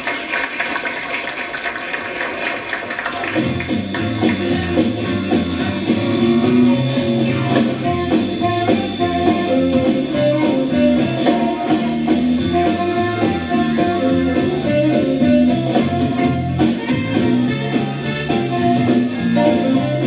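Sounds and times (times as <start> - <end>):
live band playing: 2.9 - 20.0
guitar: 3.3 - 20.0.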